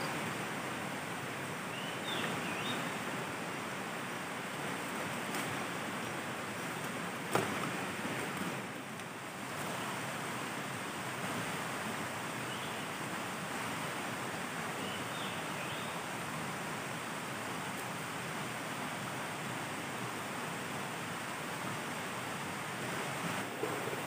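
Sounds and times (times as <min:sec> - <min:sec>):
river water rushing over rocks: 0:00.0 - 0:24.0.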